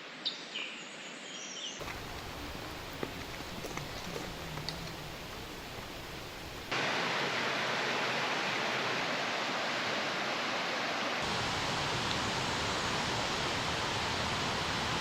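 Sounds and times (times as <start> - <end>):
mountain stream rushing: 1.8 - 15.0.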